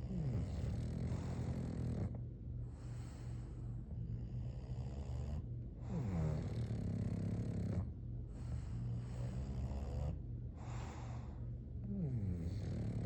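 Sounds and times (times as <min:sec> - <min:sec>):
dog snoring: 0:00.0 - 0:13.0.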